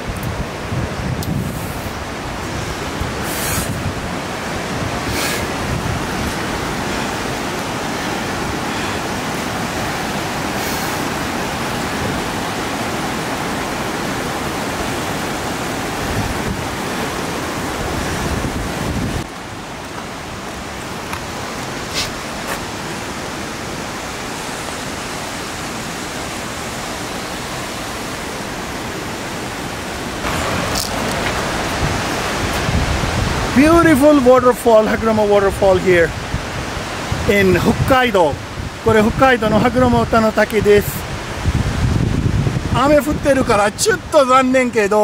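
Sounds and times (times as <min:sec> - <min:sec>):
rushing flowing water: 0:00.0 - 0:45.0.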